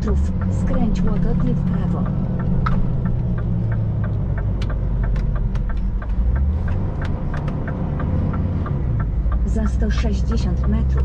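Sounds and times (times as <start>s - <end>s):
light ticking: 0.0s - 11.0s
truck engine and road rumble: 0.0s - 11.0s.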